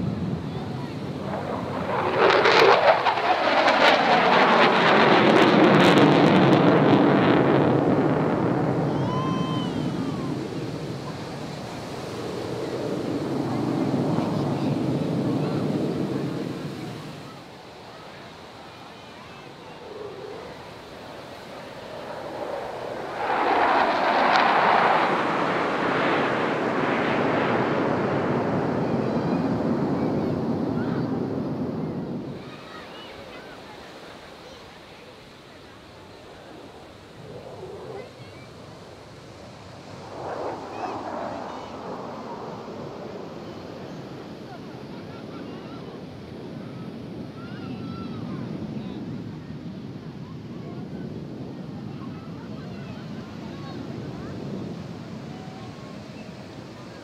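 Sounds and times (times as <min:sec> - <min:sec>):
jet roaring overhead with crackling: 0:00.0 - 0:57.0.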